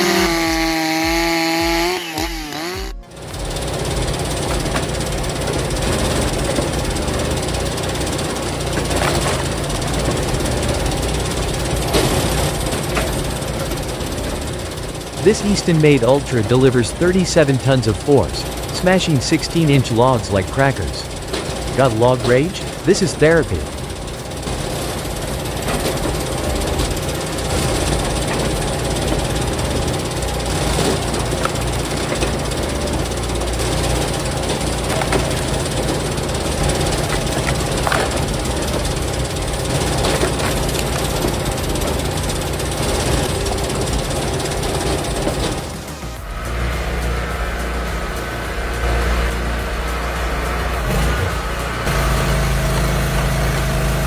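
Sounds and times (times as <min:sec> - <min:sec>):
heavy machine engine running: 0:00.0 - 0:54.0.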